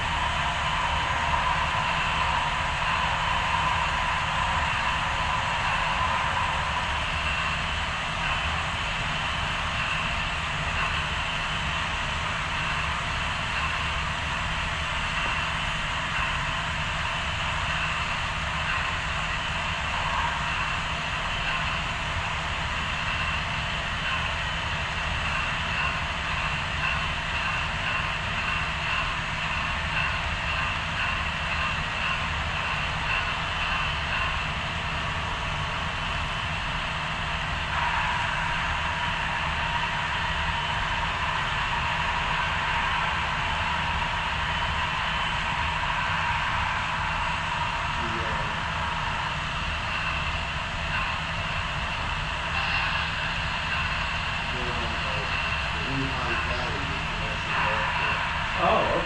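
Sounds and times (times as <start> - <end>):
model train motors whining: 0.0 - 59.0.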